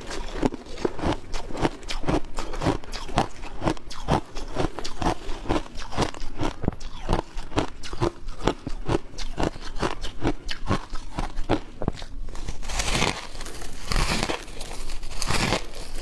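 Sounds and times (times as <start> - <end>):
ice crunching while chewed: 0.0 - 16.0.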